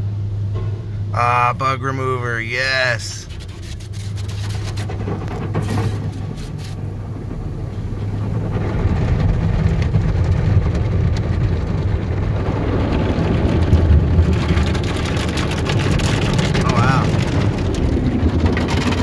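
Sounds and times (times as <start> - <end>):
steady low hum: 0.0 - 19.0
water spraying on windshield: 1.4 - 7.0, 9.1 - 19.0.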